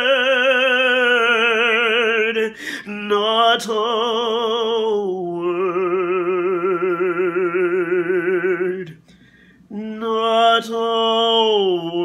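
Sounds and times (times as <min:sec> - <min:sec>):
man singing unaccompanied: 0:00.0 - 0:09.0, 0:09.7 - 0:12.0.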